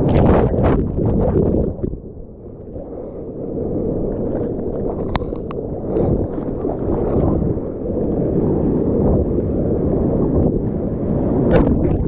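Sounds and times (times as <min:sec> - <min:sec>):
surf water rushing and splashing: 0:00.0 - 0:12.0
wind buffeting microphone: 0:00.0 - 0:12.0.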